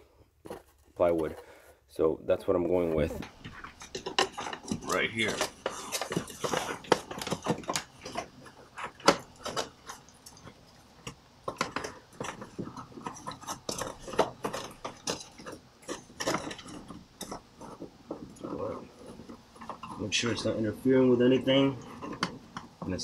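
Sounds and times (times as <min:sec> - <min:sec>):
hands handling plywood board: 0:00.0 - 0:01.7, 0:02.8 - 0:20.6
cables rattling: 0:03.1 - 0:23.0.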